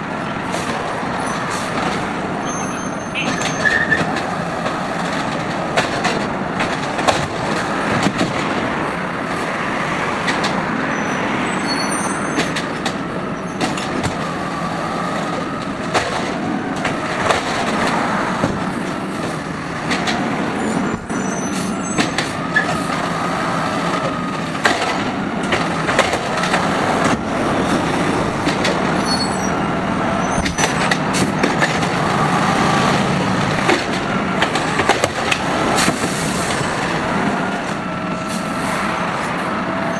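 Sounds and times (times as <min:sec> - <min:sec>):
garbage truck running: 0:00.0 - 0:39.9.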